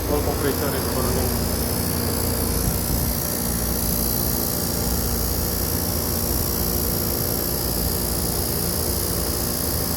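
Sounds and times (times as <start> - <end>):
machinery humming: 0.0 - 9.9.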